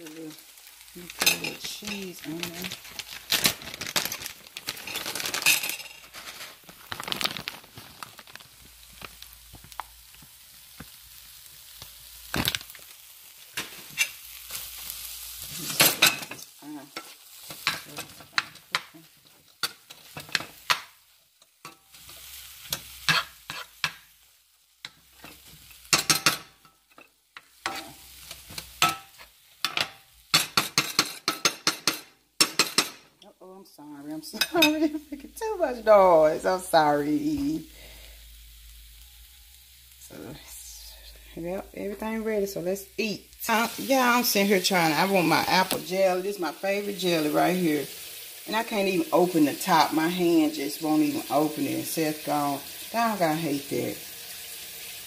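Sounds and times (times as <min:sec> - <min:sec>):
eggs sizzling in a frying pan: 0:00.0 - 0:55.0.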